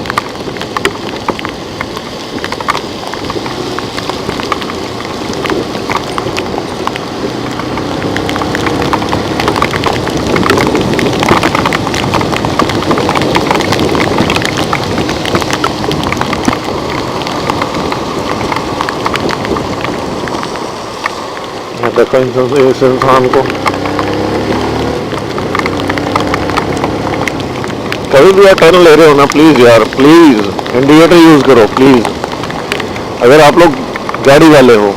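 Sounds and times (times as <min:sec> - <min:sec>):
heavy rain: 0:00.0 - 0:34.9
raindrops tapping: 0:00.0 - 0:34.9.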